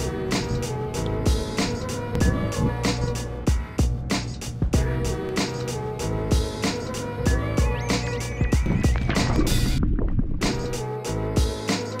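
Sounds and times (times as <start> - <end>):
background music with drum beat: 0.0 - 9.6, 10.5 - 12.0
bass line: 0.0 - 11.4.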